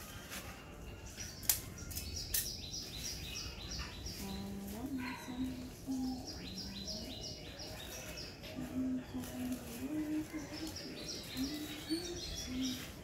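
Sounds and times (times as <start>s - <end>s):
bird chirping: 0.9s - 13.0s.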